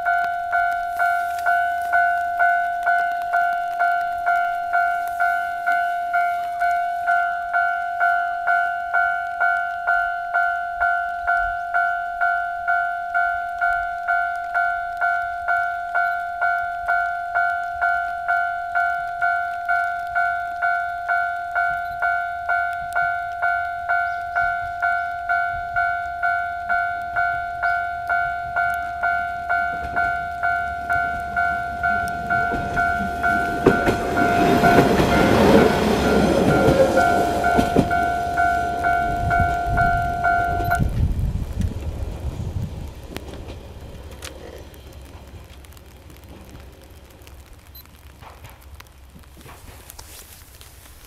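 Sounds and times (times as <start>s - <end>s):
level-crossing alarm bell: 0.0s - 40.9s
diesel railcar rumble: 0.0s - 51.0s.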